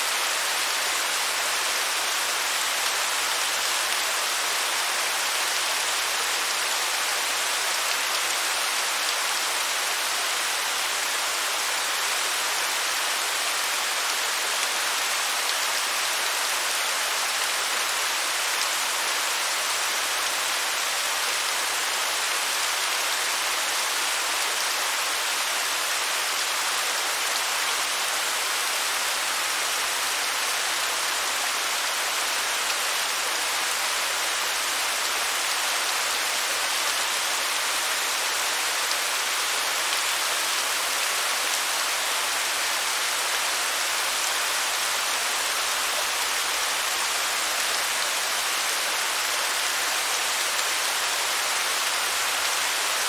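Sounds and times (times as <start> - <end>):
waterfall hiss: 0.0 - 53.0.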